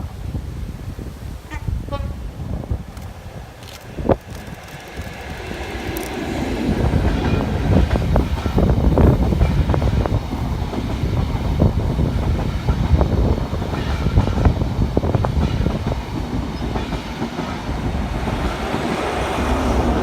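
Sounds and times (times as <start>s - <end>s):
train wheels clattering: 3.0s - 20.0s.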